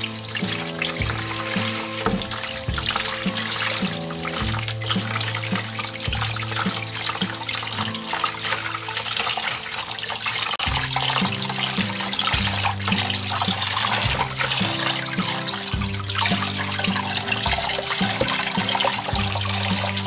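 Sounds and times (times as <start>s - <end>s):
background music with bass: 0.0s - 9.1s, 10.6s - 20.0s
water splashing: 0.0s - 20.0s
tap running into bowl: 0.3s - 9.4s, 10.1s - 20.0s.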